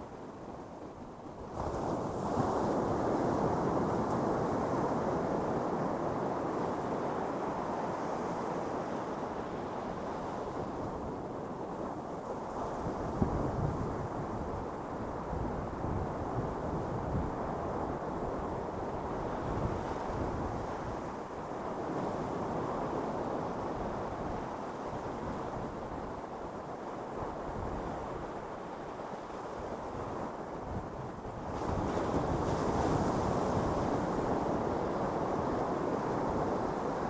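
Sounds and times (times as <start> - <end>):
ocean surf washing onto beach: 1.4 - 37.0.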